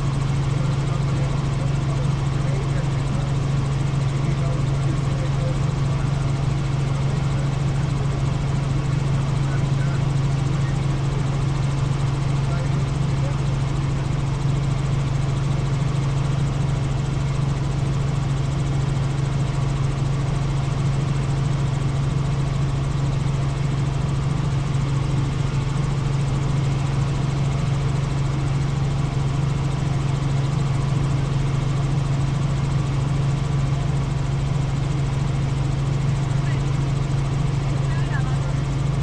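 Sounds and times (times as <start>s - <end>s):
helicopter engine and rotor drone: 0.0s - 39.0s.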